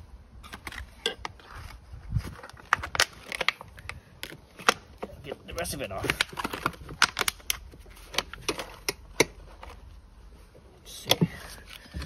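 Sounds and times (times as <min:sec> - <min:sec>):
plastic rustle: 0:00.4 - 0:10.5.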